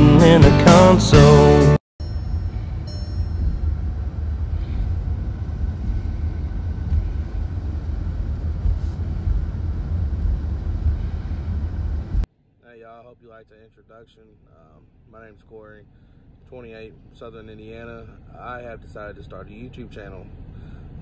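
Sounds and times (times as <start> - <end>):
car driving rumble: 2.0 - 12.3, 14.4 - 21.0.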